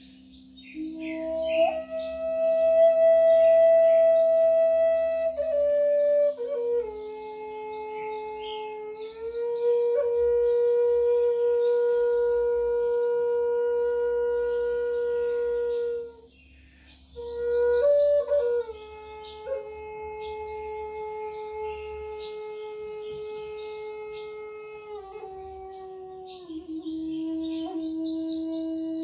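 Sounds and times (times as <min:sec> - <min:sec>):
birds chirping: 0:00.0 - 0:29.0
flute playing held notes: 0:00.0 - 0:29.0.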